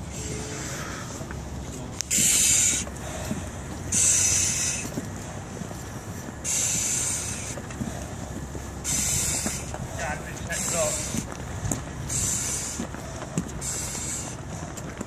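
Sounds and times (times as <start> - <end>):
breathing through a regulator: 0.1 - 1.3, 2.1 - 5.5, 6.4 - 14.9.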